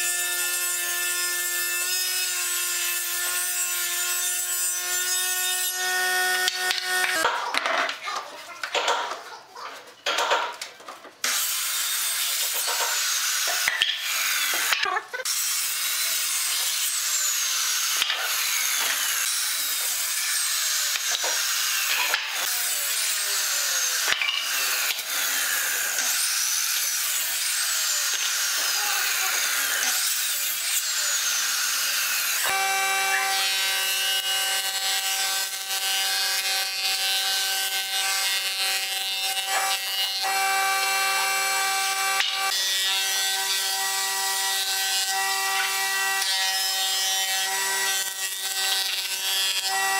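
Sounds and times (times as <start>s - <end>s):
miter saw cutting wood: 0.0s - 7.3s, 11.2s - 49.9s.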